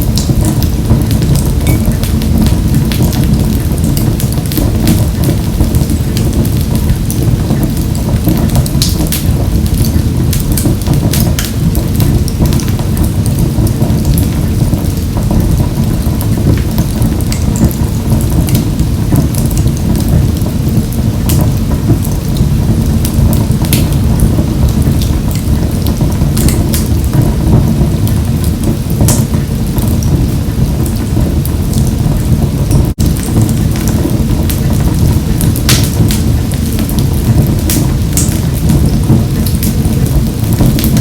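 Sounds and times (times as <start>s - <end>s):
fire crackling and popping: 0.0s - 41.0s
low roar of flames: 0.0s - 41.0s.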